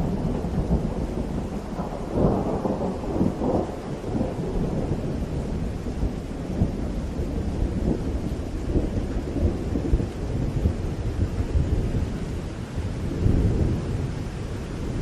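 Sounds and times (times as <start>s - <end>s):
low rumble of thunder: 0.0s - 15.0s
rain falling: 0.0s - 15.0s.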